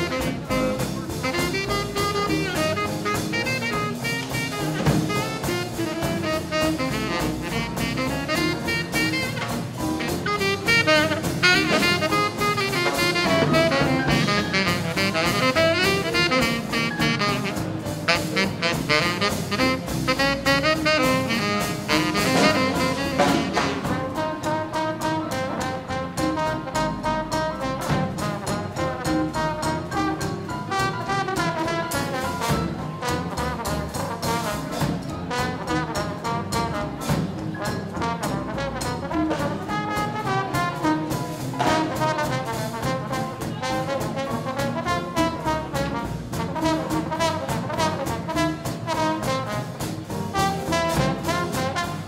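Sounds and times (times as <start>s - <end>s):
big band swing jazz: 0.0s - 52.0s
trombone: 0.0s - 52.0s.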